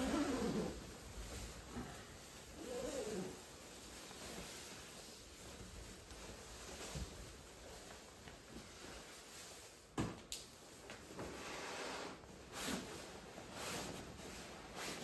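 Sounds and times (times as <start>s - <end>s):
rustling of things handled: 0.0s - 15.0s.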